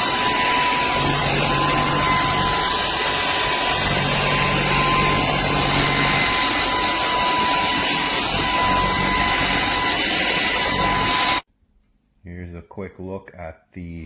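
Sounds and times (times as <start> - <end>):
vacuum cleaner running: 0.0 - 11.5.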